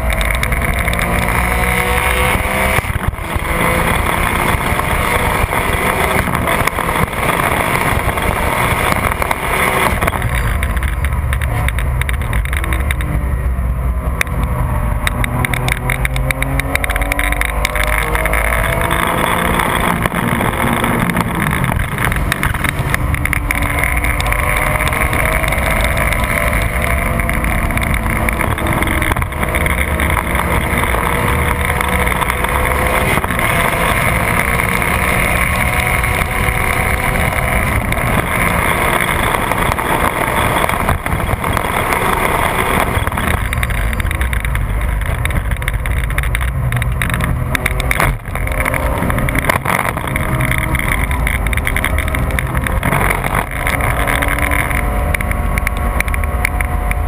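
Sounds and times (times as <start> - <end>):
car engine at high revs: 0.0 - 57.0
wind and road noise: 0.0 - 57.0.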